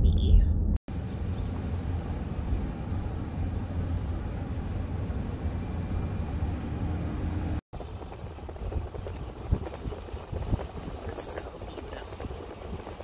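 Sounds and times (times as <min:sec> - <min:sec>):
tyre and engine rumble: 0:00.9 - 0:13.0.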